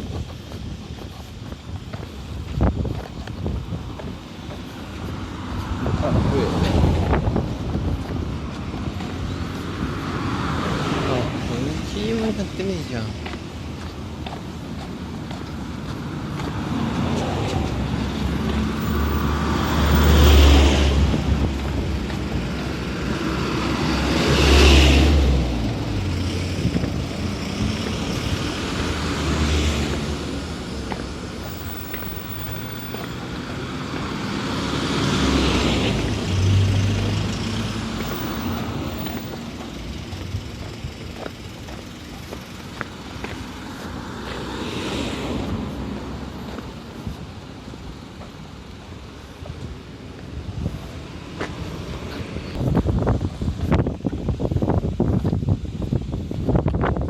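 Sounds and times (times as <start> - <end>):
cars passing: 0.0 - 57.0
steady traffic hum: 0.0 - 57.0.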